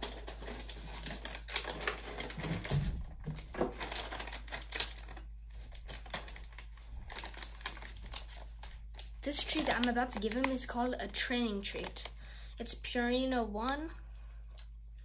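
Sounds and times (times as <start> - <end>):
plastic pouch crinkling: 0.0 - 12.2.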